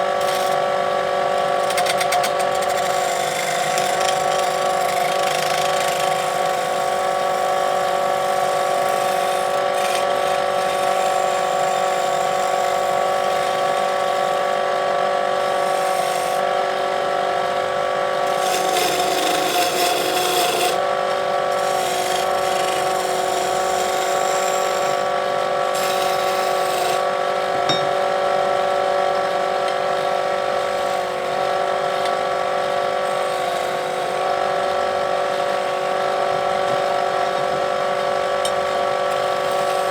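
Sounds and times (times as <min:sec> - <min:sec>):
tool cutting spinning wood: 0:00.0 - 0:39.9
wood lathe motor whining: 0:00.0 - 0:39.9.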